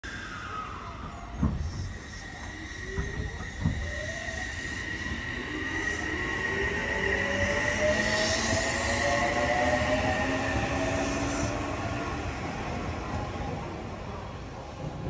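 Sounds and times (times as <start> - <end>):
steady high squeal: 0.0 - 14.9
train motor whine rising: 0.1 - 13.6
electric train accelerating past: 0.1 - 15.0.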